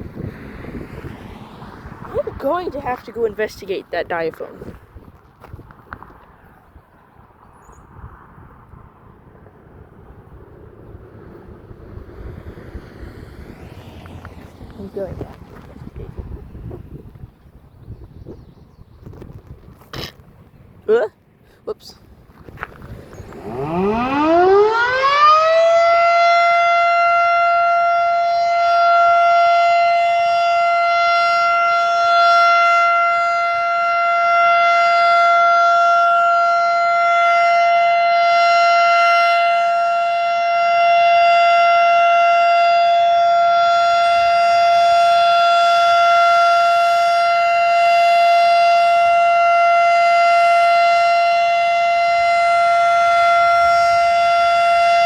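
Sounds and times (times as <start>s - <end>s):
outdoor warning siren: 0.0s - 18.4s, 22.4s - 55.0s.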